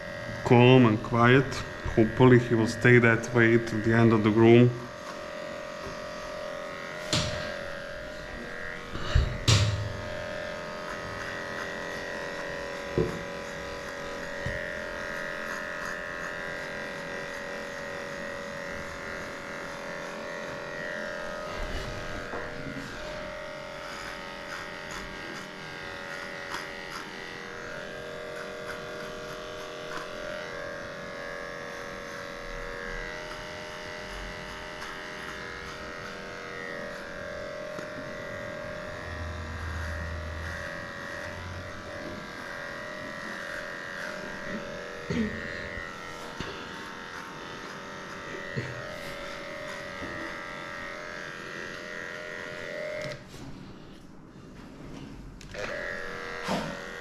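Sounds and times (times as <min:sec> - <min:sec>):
electric clipper motor hum: 0:00.0 - 0:54.1, 0:55.2 - 0:57.0.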